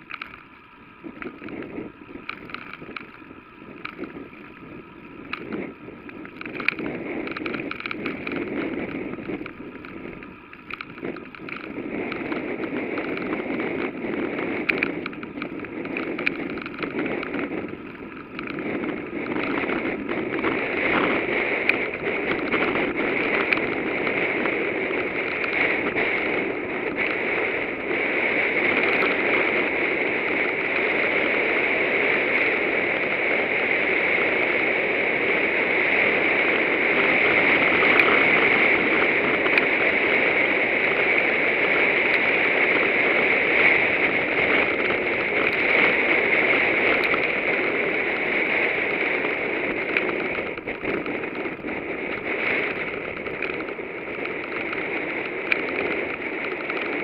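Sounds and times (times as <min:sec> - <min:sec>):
bicycle tyres rolling on road: 0:00.0 - 0:57.0
small clicks and rattles: 0:00.0 - 0:57.0
wind on microphone: 0:00.0 - 0:57.0.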